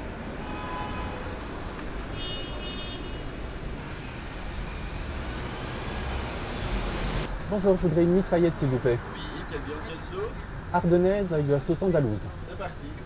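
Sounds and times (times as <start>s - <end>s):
rumble of passing cars: 0.0s - 13.0s.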